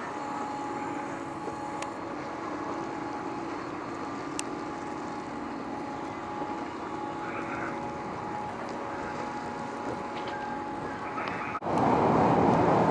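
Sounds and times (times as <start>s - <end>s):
ship engines humming: 0.0s - 12.9s.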